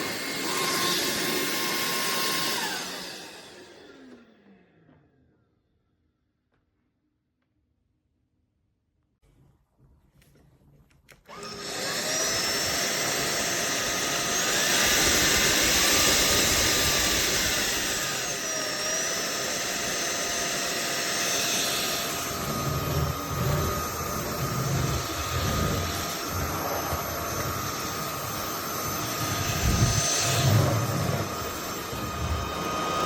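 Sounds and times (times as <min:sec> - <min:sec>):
vacuum cleaner motor whine: 0:00.0 - 0:05.1, 0:11.2 - 0:33.0.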